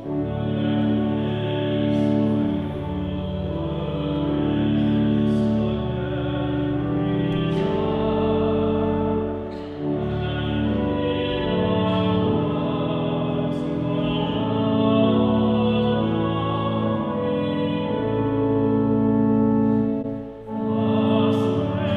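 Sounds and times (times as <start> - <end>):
instrumental accompaniment: 0.0 - 21.9
voices singing a hymn: 0.0 - 21.9.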